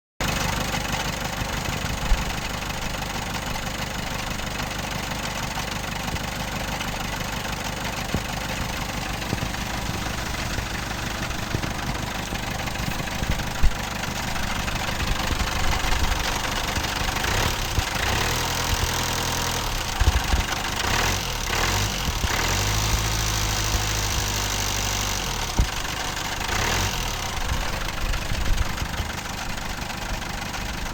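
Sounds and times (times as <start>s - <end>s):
engine running with knocking rattle: 0.2s - 30.9s.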